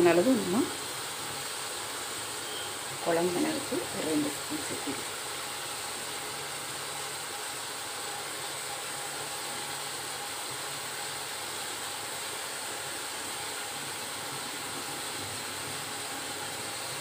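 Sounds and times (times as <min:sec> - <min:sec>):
vegetables cooking with hiss: 0:00.0 - 0:17.0.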